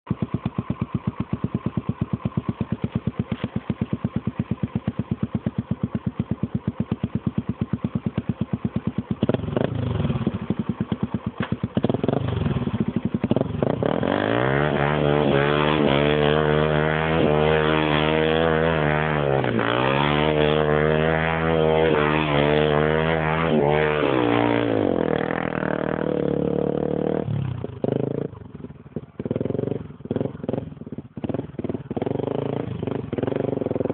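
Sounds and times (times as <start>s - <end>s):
motorcycle engine: 0.0s - 33.9s.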